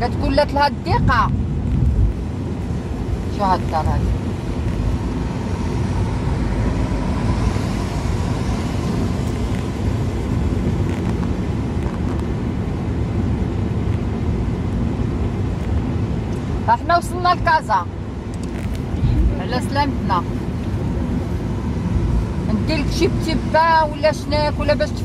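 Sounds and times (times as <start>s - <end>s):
car engine drone: 0.0s - 25.0s.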